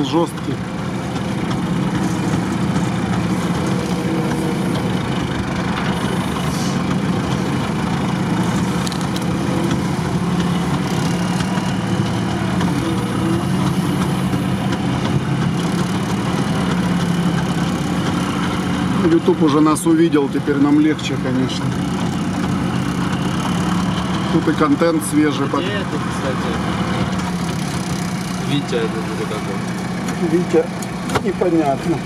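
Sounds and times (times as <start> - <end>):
vehicle engine running at low speed: 0.0 - 32.0.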